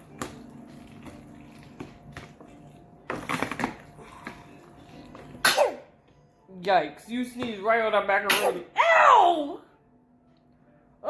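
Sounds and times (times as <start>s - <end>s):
faint kitchen noise: 0.0s - 11.0s.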